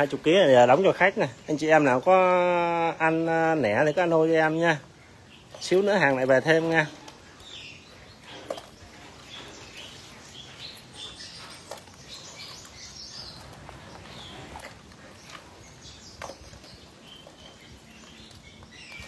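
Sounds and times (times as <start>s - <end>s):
crabs clicking and scratching in crate: 0.0s - 19.0s.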